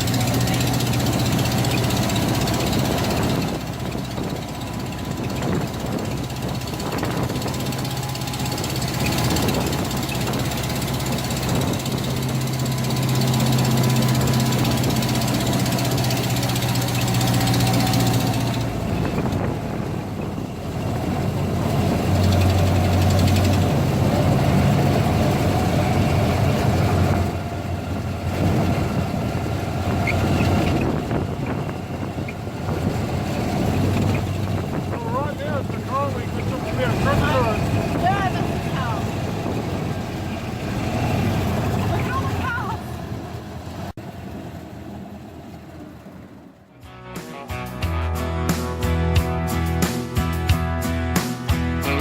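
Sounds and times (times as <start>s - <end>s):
car engine running: 0.0s - 47.2s.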